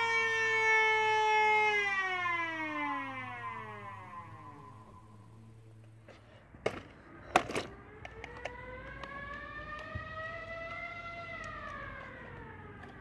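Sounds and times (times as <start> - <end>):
siren rising in pitch: 0.0 - 5.6, 7.6 - 13.0.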